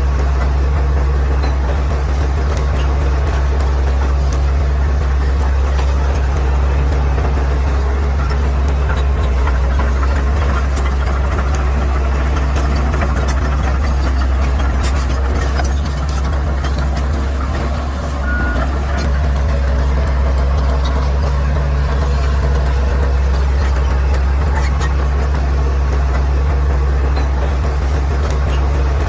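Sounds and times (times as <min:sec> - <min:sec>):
bulldozer diesel engine droning: 0:00.0 - 0:29.0.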